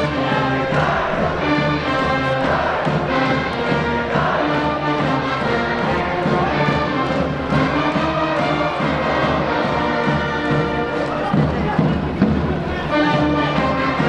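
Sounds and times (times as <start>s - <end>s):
brass band playing: 0.0s - 14.0s.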